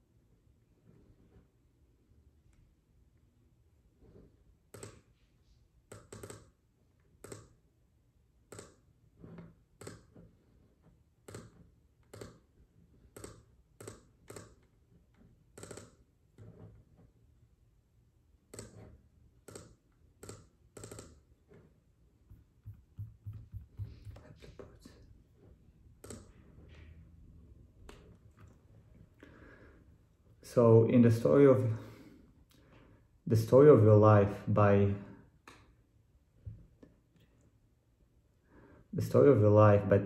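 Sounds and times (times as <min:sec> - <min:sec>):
low room hum: 0:00.0 - 0:40.0.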